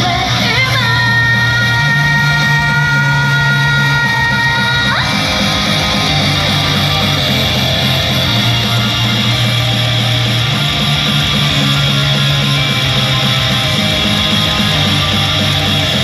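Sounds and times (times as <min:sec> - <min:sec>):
rock pop music over sound system: 0:00.0 - 0:16.0.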